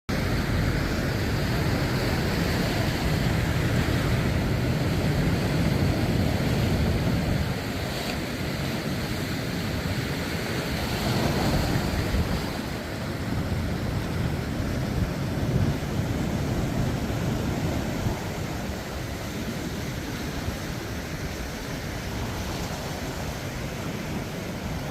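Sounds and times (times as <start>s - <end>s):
waves breaking on shore: 0.1s - 24.9s
wind buffeting microphone: 0.1s - 24.9s.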